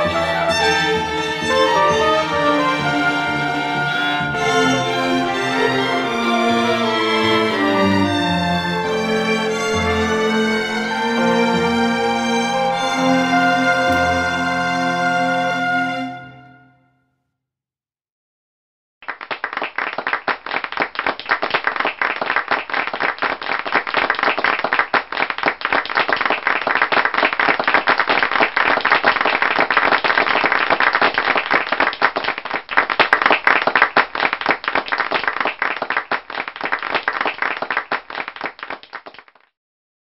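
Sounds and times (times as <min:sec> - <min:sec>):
crowd applause: 0:00.0 - 0:16.4, 0:19.1 - 0:39.2.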